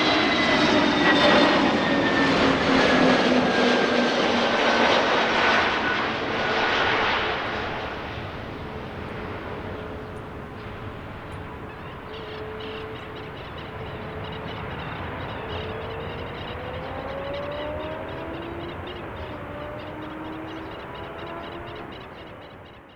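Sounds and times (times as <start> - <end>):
aircraft engine rumble: 0.0 - 22.9.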